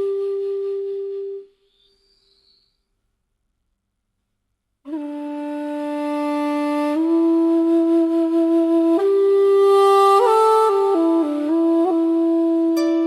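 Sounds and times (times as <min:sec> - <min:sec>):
bamboo flute held notes: 0:00.0 - 0:02.7, 0:04.9 - 0:13.0.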